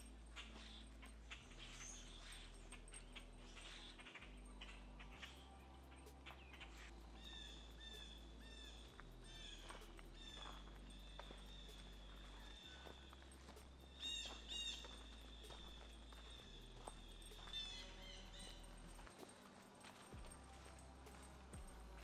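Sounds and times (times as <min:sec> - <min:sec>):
faint birds calling: 0:00.0 - 0:22.0.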